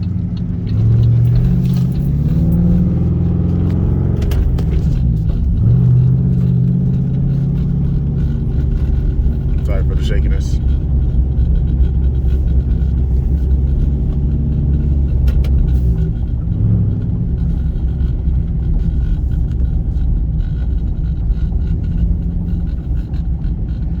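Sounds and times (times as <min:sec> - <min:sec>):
car engine rumbling in cabin: 0:00.0 - 0:24.0.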